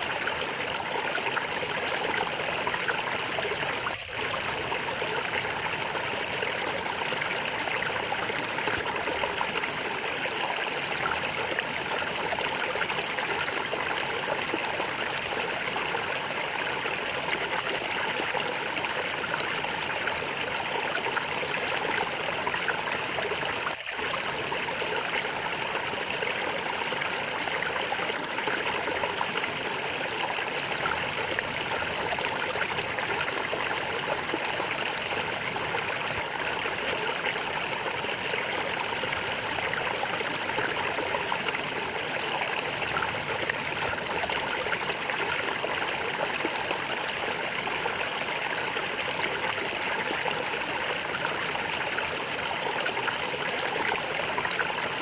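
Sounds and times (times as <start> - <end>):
stream gurgling and trickling: 0.0 - 55.0.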